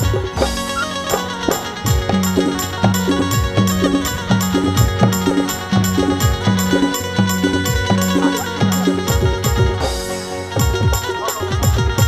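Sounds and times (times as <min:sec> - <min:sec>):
sustained melody tones: 0:00.0 - 0:11.9
rapid drum strokes: 0:00.0 - 0:12.0.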